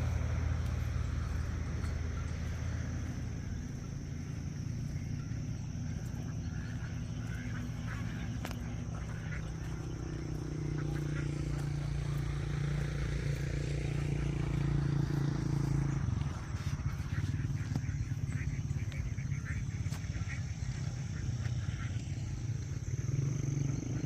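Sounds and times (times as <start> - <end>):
engine humming: 0.0 - 24.0.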